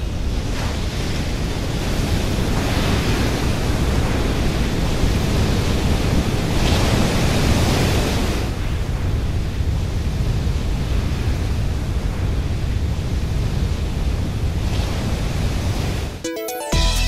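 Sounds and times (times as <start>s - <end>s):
heavy waves breaking: 0.0s - 16.2s.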